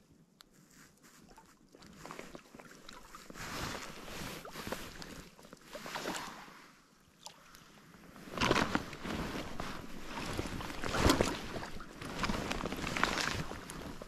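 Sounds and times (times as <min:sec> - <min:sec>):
water splashing and sloshing: 0:01.0 - 0:14.0.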